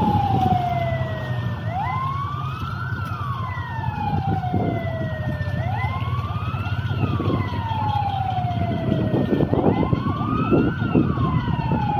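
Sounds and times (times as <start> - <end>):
wailing siren: 0.0 - 11.9.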